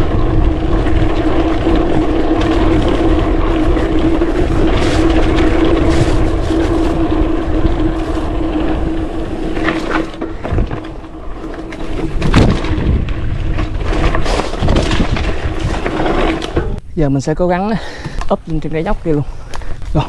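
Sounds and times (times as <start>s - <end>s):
bike knocks and rattles: 0.0s - 16.8s
steady buzz: 0.0s - 16.8s
wind rushing over microphone: 0.0s - 17.4s
bike tyres on dirt: 0.0s - 20.0s.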